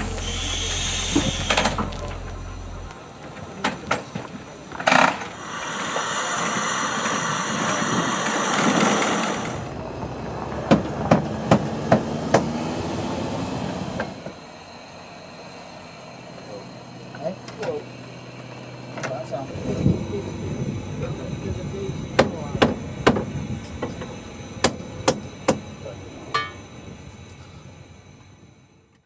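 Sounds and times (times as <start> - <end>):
steam engine hissing: 0.0 - 9.9, 13.6 - 28.9.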